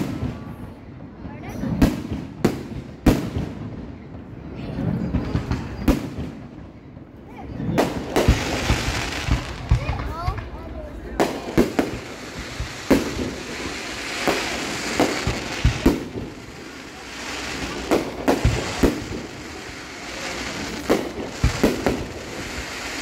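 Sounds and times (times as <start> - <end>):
fireworks bursting with sharp bangs: 0.0 - 23.0.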